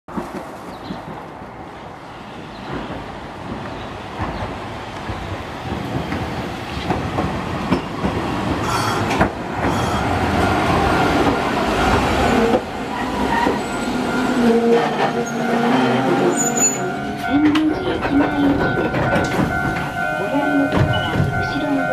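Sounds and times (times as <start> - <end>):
tram wheels clacking over rail joints: 2.4 - 21.9.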